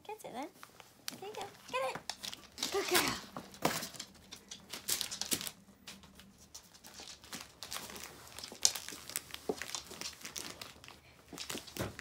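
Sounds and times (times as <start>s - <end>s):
crinkling and rustling stocking: 0.4s - 12.0s.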